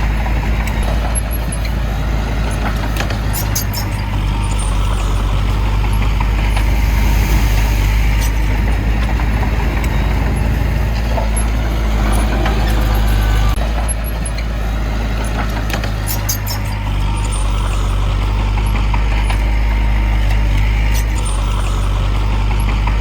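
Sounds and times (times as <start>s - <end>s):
diesel engine running: 0.0s - 23.0s
metallic clicks and clanks: 2.4s - 14.5s, 15.1s - 23.0s.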